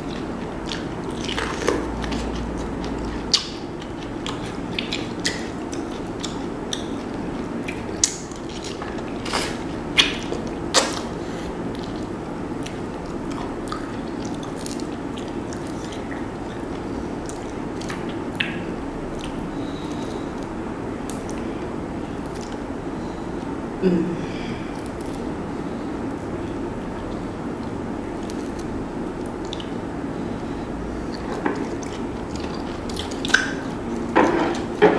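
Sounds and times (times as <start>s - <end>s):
close-miked chewing: 0.0s - 22.7s, 26.1s - 34.9s
steady low hum: 0.0s - 34.9s.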